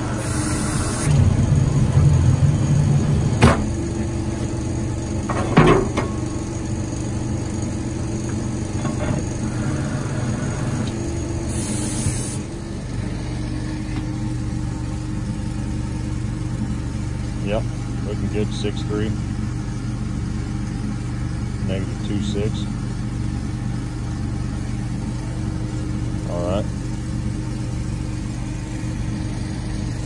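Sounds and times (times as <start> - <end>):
drill rig engine running: 0.0 - 30.0.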